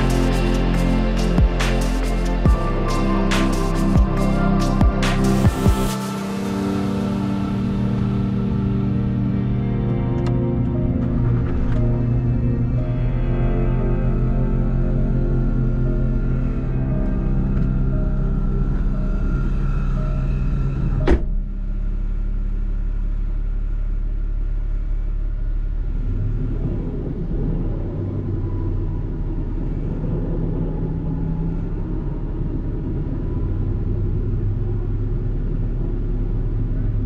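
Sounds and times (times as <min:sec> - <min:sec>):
car engine idling: 0:00.0 - 0:37.0
rumbling noise: 0:00.0 - 0:37.0.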